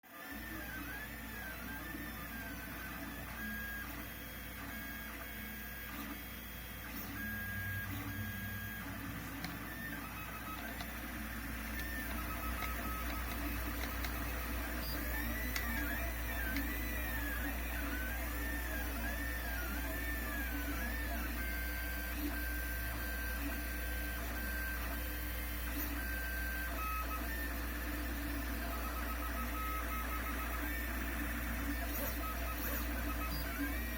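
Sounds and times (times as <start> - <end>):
stepper motors whining: 0.3 - 33.9.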